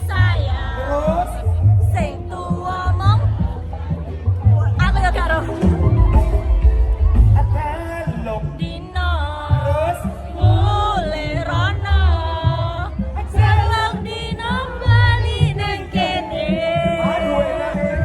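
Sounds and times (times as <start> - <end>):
heavy pulsing bass line: 0.0 - 17.3.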